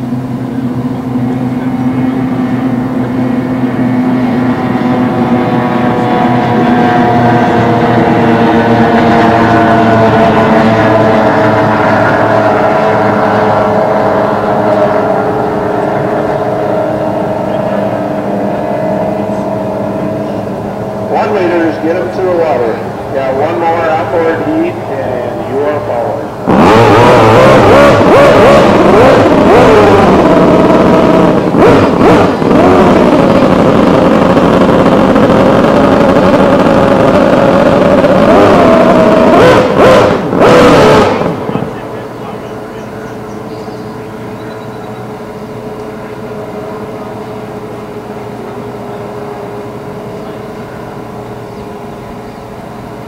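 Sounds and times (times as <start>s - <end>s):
racing boat engines buzzing: 0.0s - 53.0s.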